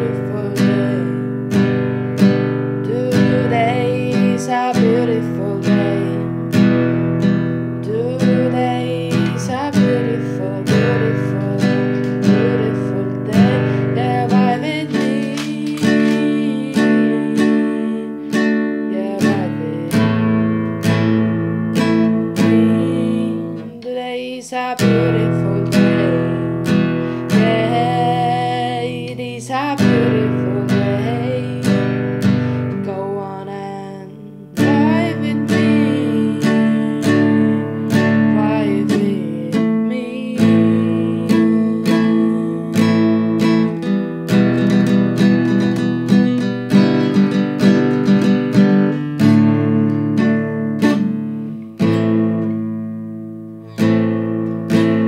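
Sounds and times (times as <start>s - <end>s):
woman singing: 0.0s - 52.6s
acoustic guitar strumming: 0.0s - 55.0s.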